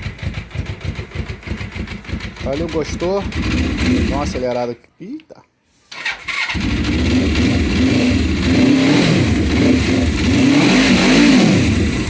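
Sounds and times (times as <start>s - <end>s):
motorcycle engine revving: 0.0s - 4.4s, 6.0s - 12.0s.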